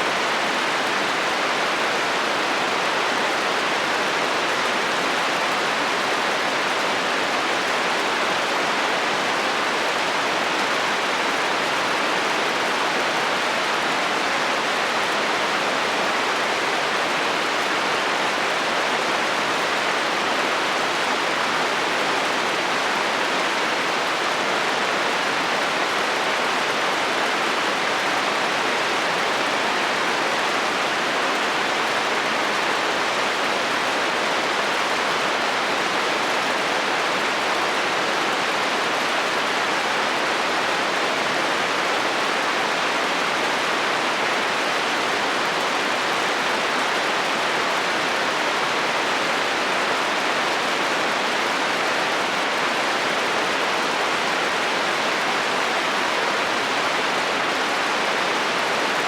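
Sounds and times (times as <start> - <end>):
heavy rain on a metal roof: 0.0 - 59.0.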